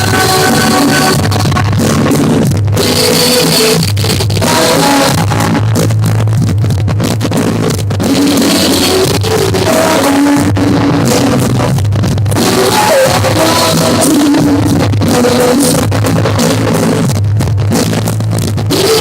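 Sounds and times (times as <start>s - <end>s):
bass: 0.0s - 19.0s
guitar: 0.0s - 19.0s
live rock song: 0.0s - 19.0s.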